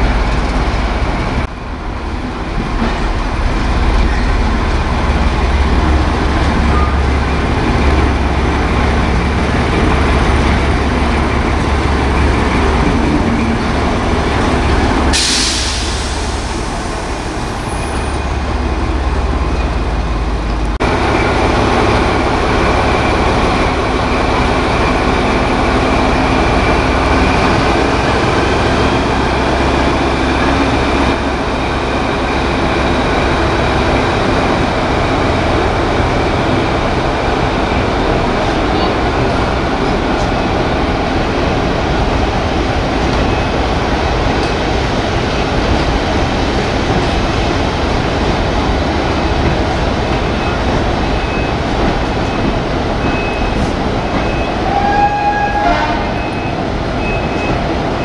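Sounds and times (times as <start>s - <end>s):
train wheels and engine rumble: 0.0s - 58.0s.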